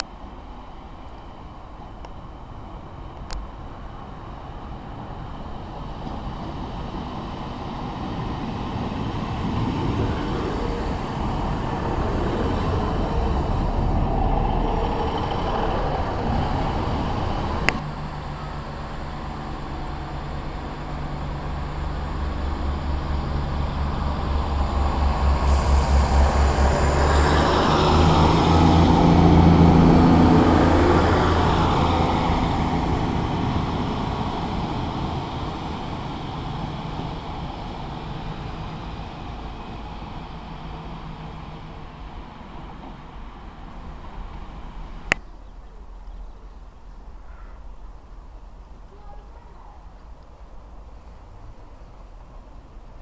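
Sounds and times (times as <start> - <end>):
train wheels on rails: 0.0 - 45.1
diesel train passing: 0.0 - 53.0.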